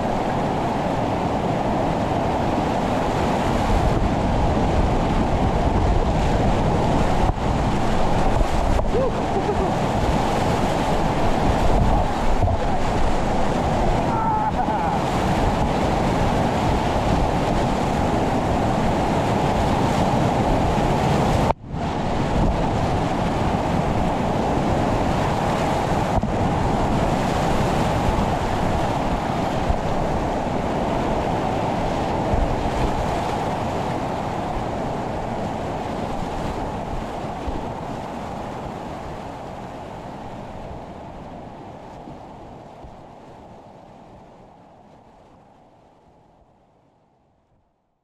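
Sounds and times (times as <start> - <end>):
whitewater rushing in creek: 0.0 - 44.2.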